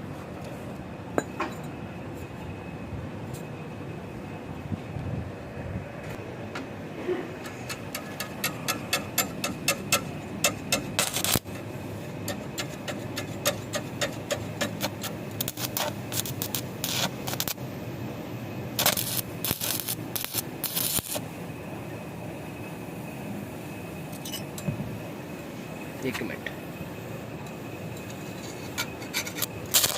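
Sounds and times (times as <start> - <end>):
low workshop hum: 0.0 - 29.9.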